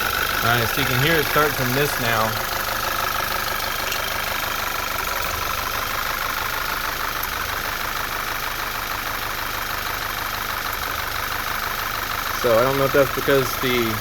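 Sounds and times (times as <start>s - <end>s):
car engine idling with misfire: 0.0s - 14.0s.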